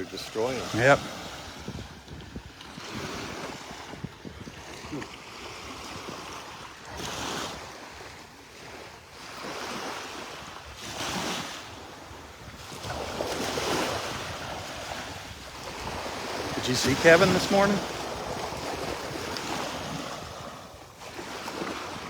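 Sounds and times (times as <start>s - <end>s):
surf washing up a beach: 0.0s - 22.0s
wind on microphone: 0.5s - 7.8s, 10.4s - 22.0s.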